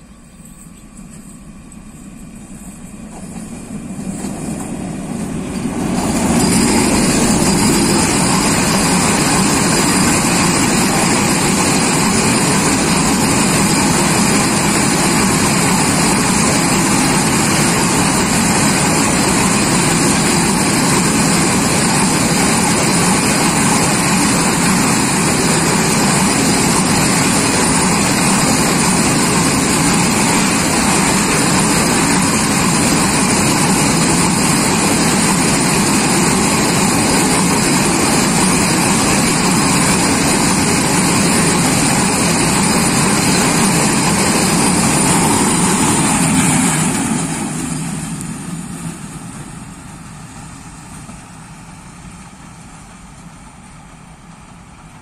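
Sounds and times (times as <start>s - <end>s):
freight train passing: 0.0s - 55.0s.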